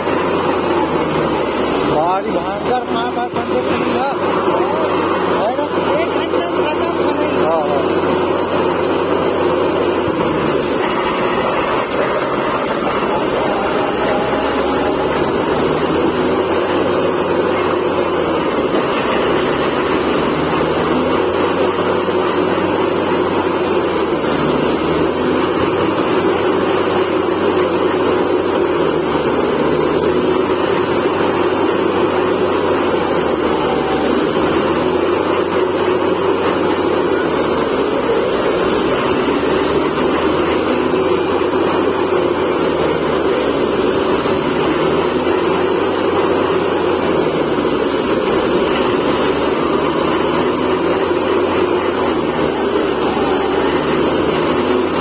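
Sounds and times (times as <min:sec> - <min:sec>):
drilling rig running: 0:00.0 - 0:55.0.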